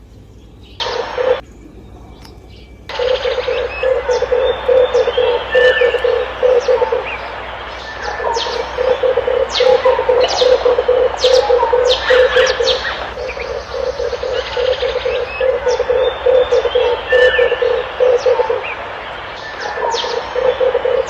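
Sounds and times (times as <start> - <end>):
small birds chirping: 0.2 - 21.0
dove cooing: 0.8 - 21.0.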